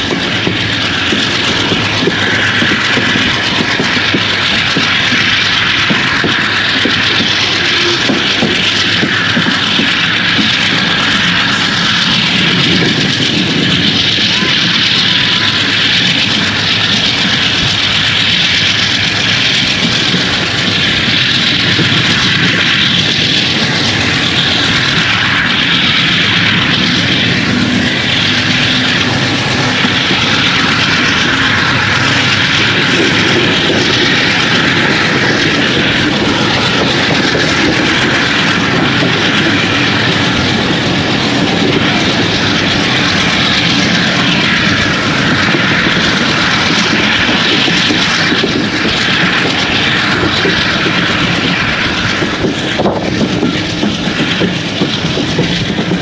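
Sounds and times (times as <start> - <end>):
locomotive engine drone: 0.0 - 56.0.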